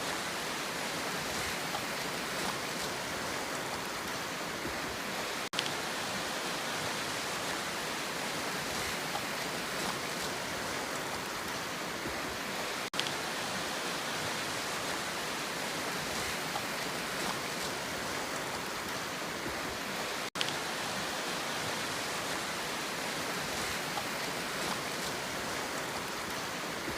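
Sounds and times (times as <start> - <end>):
sea rushing: 0.0 - 26.9.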